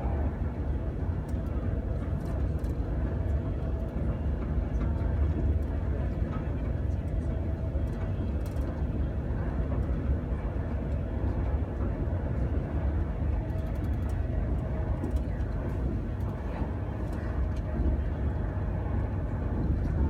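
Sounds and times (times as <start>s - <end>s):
electric train rumble inside carriage: 0.0s - 20.0s.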